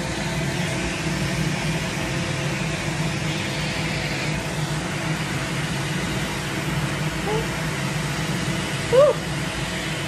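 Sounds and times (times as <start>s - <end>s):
machine hum with air rush: 0.0s - 10.0s.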